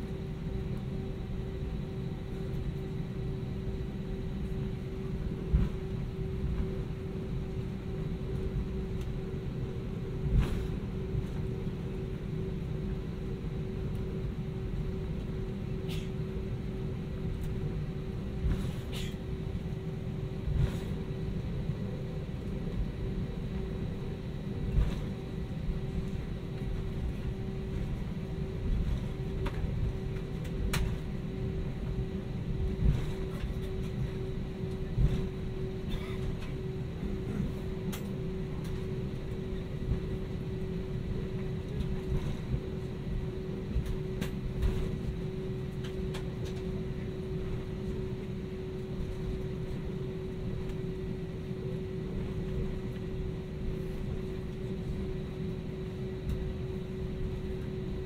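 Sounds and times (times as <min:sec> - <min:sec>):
aircraft cabin rumble and hum: 0:00.0 - 0:58.0.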